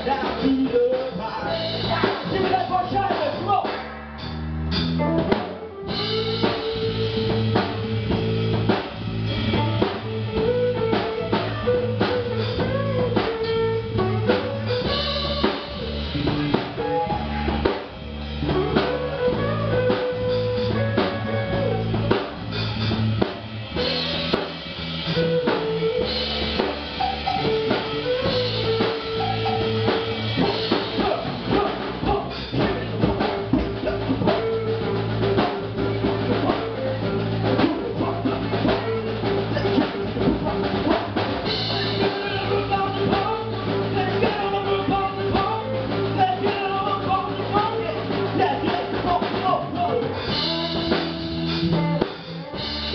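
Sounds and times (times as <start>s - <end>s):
drum kit beat: 0.0s - 52.9s
electric guitar: 0.0s - 52.9s
held melodic notes: 0.8s - 48.6s.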